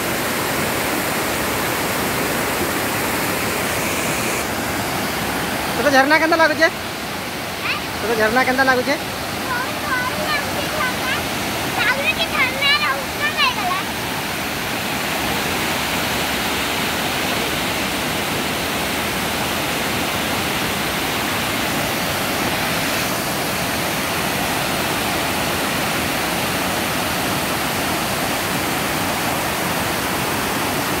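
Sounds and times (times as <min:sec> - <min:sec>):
water rushing over rocks: 0:00.0 - 0:31.0.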